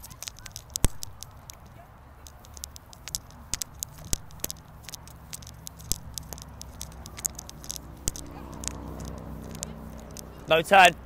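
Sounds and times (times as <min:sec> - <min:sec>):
footsteps: 0:00.0 - 0:11.0.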